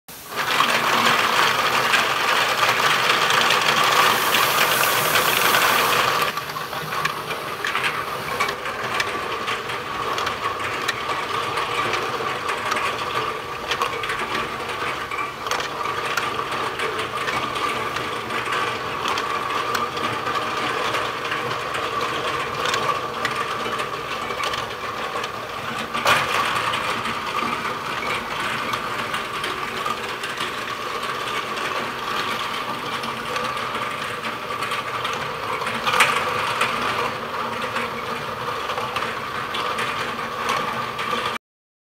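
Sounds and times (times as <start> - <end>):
machine whine: 0.2 - 39.9
mechanical rattle: 0.2 - 41.4.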